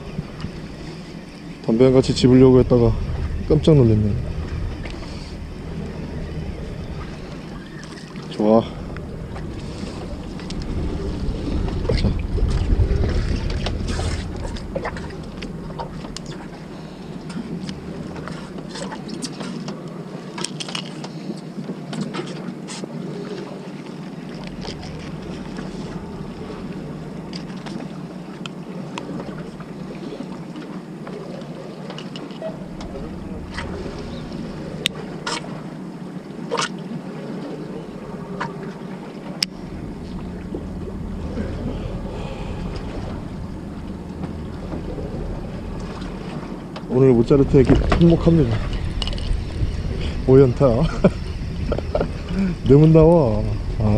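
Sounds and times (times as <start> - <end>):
wind buffeting microphone: 0.0 - 20.4, 22.4 - 53.9
boat engine running: 0.0 - 53.9.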